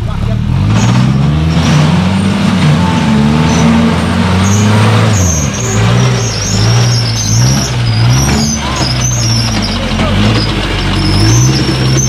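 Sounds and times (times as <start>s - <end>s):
buggy engine revving hard: 0.0s - 12.0s.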